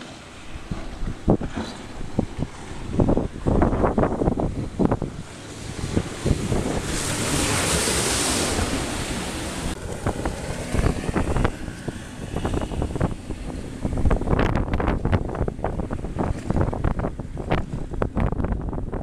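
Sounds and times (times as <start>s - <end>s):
rushing water: 0.0s - 19.0s
wind buffeting microphone: 0.0s - 19.0s.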